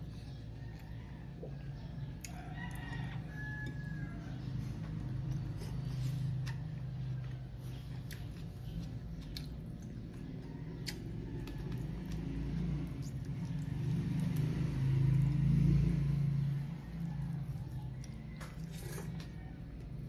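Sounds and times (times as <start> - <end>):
passing vehicle engine rumble: 3.1 - 20.0.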